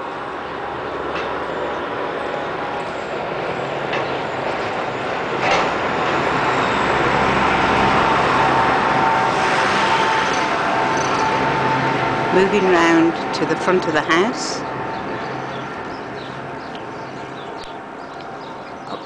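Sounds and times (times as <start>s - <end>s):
passing vehicle: 0.0s - 19.0s.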